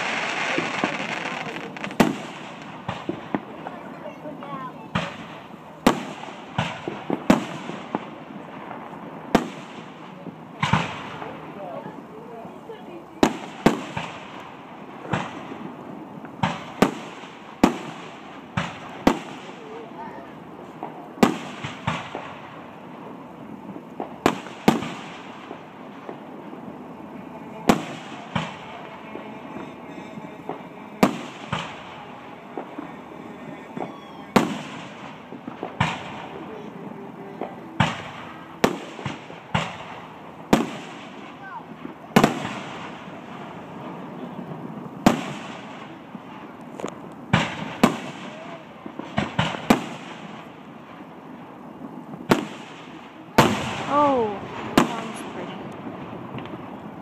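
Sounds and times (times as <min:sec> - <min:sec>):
firework shells bursting: 0:00.0 - 0:11.4, 0:13.2 - 0:51.2
light firework pops: 0:00.0 - 0:12.0, 0:13.0 - 0:26.6, 0:27.2 - 0:51.1, 0:51.8 - 0:57.0
crackling hiss: 0:00.0 - 0:57.0
rolling echo: 0:00.0 - 0:57.0.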